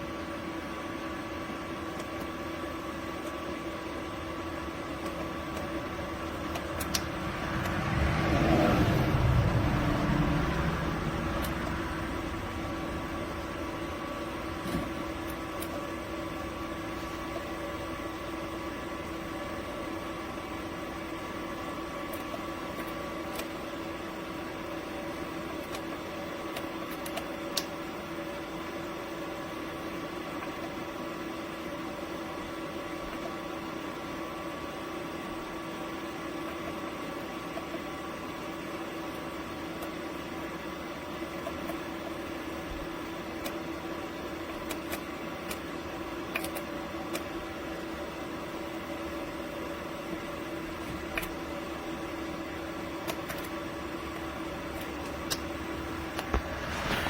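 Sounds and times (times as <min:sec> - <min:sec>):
machine hum with held tones: 0:00.0 - 0:57.0.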